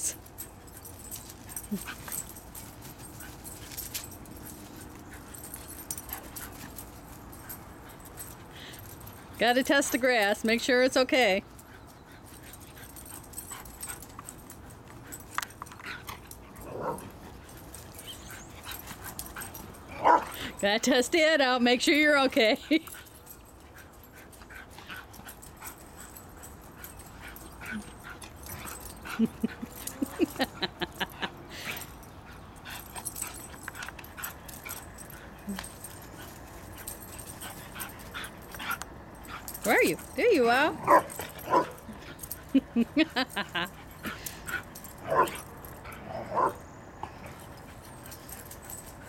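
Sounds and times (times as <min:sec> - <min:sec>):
dog playing sounds: 0:00.0 - 0:49.0.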